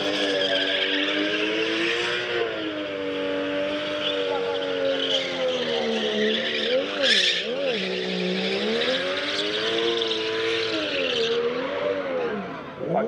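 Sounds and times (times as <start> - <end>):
tyres squealing: 0.0 - 12.4
car engines at high revs: 0.0 - 13.0.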